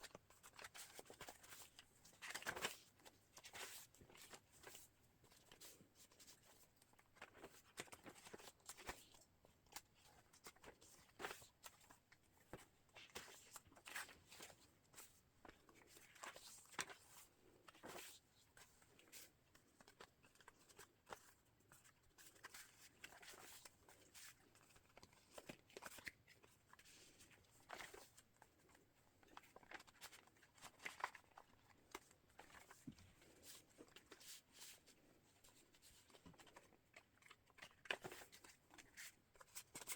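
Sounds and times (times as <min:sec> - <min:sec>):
paper pages rustling: 0:00.1 - 0:39.9.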